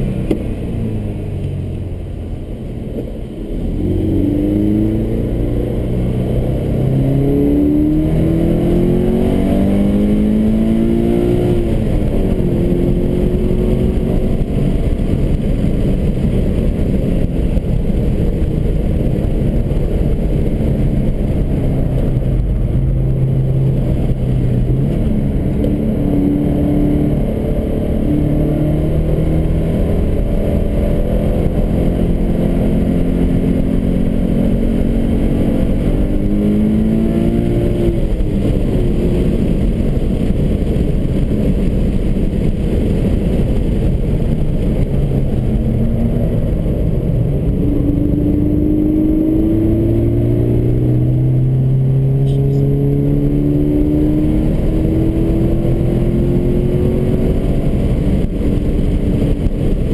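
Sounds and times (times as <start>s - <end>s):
car engine revving: 0.0s - 59.9s
road noise rumble: 0.0s - 59.9s.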